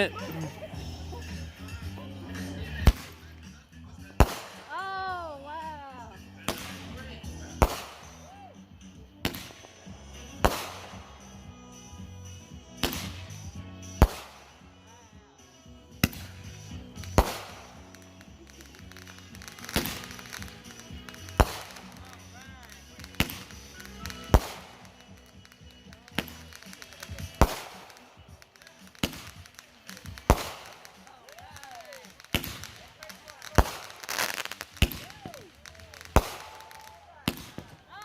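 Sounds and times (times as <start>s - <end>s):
firework bangs with crackle: 1.0s - 5.0s, 5.6s - 8.4s, 9.2s - 15.0s, 15.6s - 37.9s
firework whistle: 4.2s - 37.8s.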